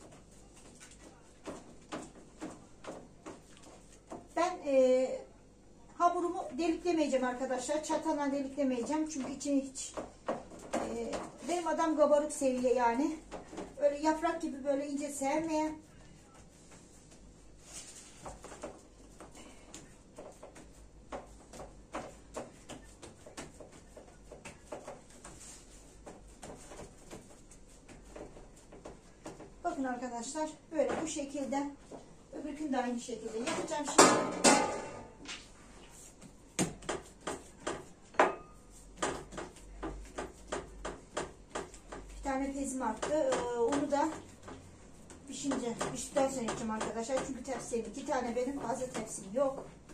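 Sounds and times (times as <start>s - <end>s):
hands patting dough: 0.0s - 4.8s, 6.2s - 32.2s, 35.2s - 49.9s.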